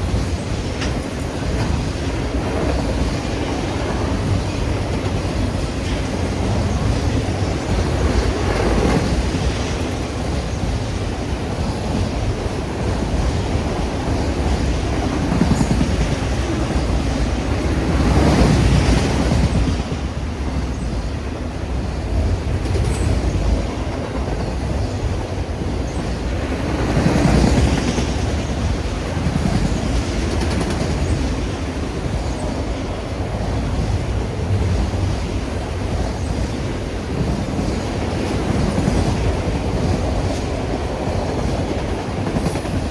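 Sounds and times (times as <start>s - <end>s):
freight train cars rolling: 0.0s - 42.9s.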